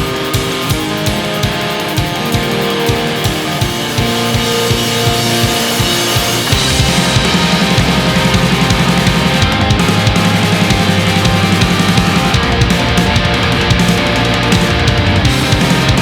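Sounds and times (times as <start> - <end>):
bass guitar: 0.0 - 16.0
distorted electric guitars riffing: 0.0 - 16.0
quick driving drums: 0.0 - 16.0.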